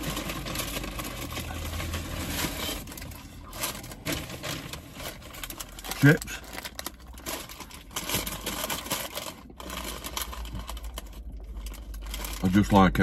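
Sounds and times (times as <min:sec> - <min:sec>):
paper packaging rustling: 0:00.0 - 0:13.0.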